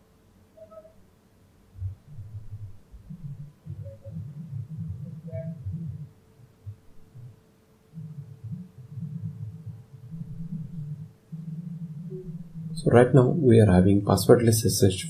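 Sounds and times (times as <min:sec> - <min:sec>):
faint steady hum: 0:00.0 - 0:15.0
low uneven rumbling: 0:01.7 - 0:15.0.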